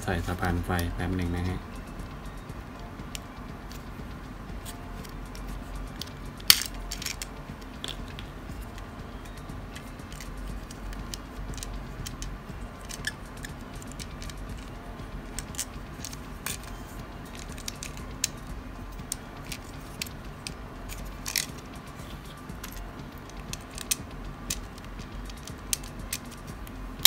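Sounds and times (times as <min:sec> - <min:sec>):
faint steady hum: 0:00.0 - 0:27.0
small plastic parts clicking: 0:05.0 - 0:26.8.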